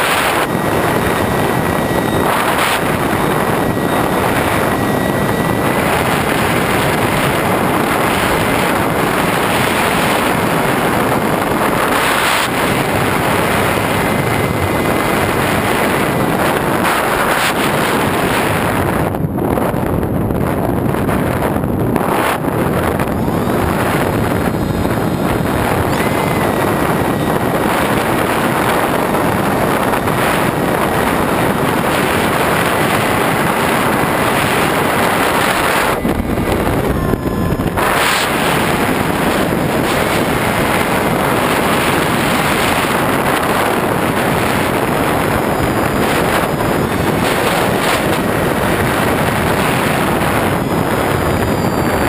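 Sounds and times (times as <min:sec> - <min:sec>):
faint thin whine: 0:00.0 - 0:18.8, 0:21.0 - 0:52.0
electric motor and propeller running: 0:00.0 - 0:52.0
wind rushing over microphone: 0:00.0 - 0:52.0.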